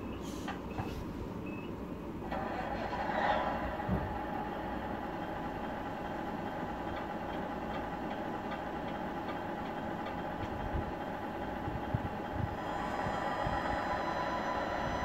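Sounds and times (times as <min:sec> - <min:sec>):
simulated diesel engine idling: 0:01.8 - 0:15.0.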